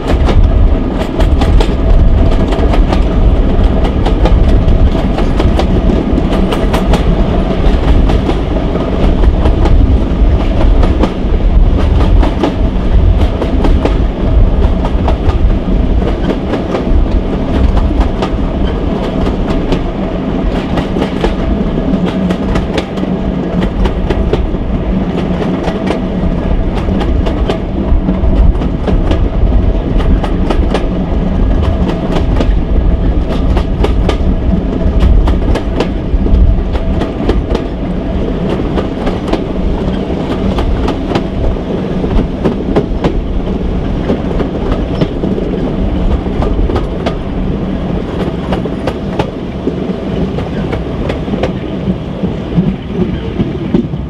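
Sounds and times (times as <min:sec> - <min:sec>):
low train rumble: 0:00.0 - 0:54.0.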